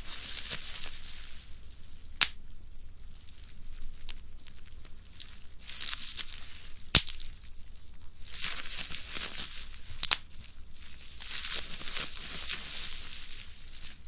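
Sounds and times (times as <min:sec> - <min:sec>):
bubble wrap crackling and popping: 0:00.0 - 0:14.0.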